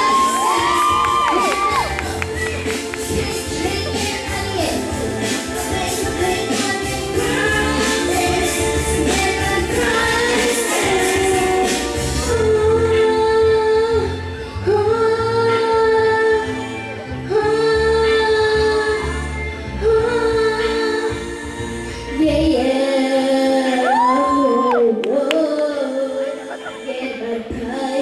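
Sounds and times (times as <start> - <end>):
steady bass: 0.0 - 22.5
woman singing: 0.0 - 28.0.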